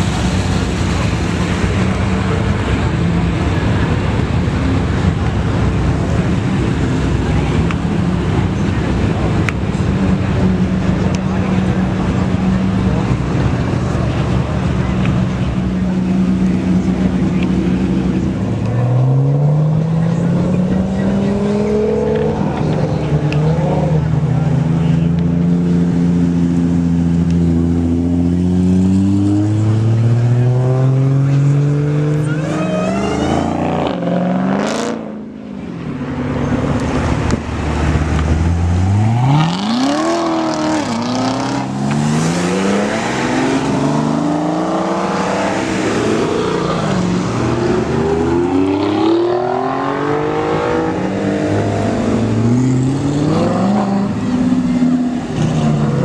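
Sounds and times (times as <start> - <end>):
supercar engines accelerating: 0.0 - 56.0.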